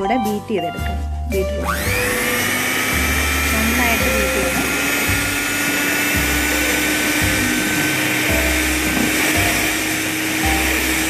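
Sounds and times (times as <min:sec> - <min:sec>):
electric hand mixer whining: 0:01.5 - 0:11.0.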